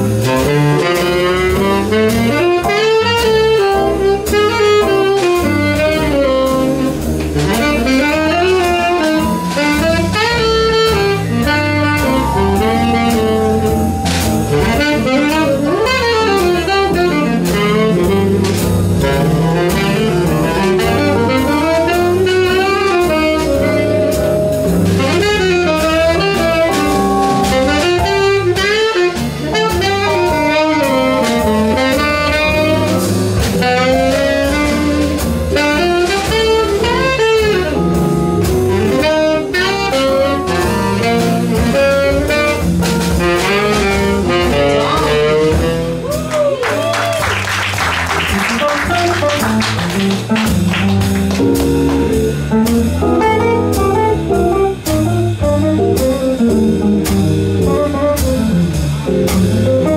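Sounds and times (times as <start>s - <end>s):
drum kit: 0.0s - 59.9s
piano: 0.0s - 59.9s
saxophone solo: 0.0s - 59.9s
walking double bass: 0.0s - 59.9s.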